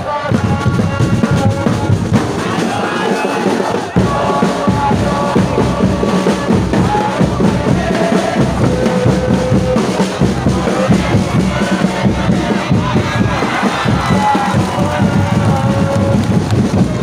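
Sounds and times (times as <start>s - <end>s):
stadium crowd singing a chant: 0.0s - 17.0s
bass drums pounding: 0.3s - 17.0s.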